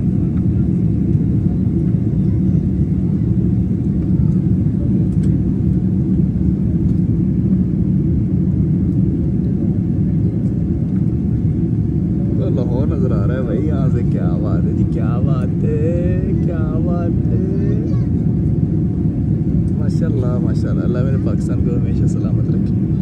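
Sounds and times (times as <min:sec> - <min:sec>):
jet engine and airflow rumble: 0:00.0 - 0:23.0.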